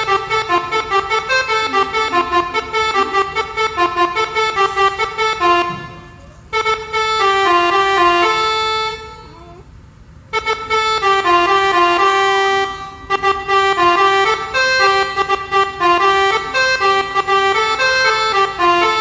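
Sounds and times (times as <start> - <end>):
musical air horn playing a tune: 0.0 - 9.4, 10.4 - 19.0.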